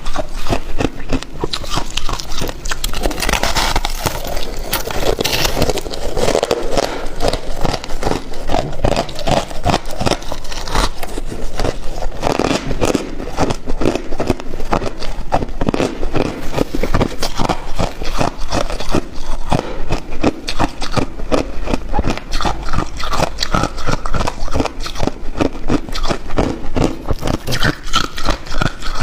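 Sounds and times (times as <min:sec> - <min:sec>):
ice being chewed: 0:00.0 - 0:29.0.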